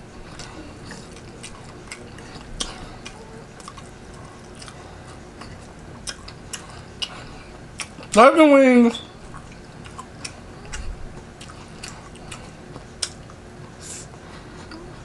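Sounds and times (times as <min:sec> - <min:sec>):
person chewing with mouth smacks: 0:00.2 - 0:08.2, 0:09.3 - 0:15.0.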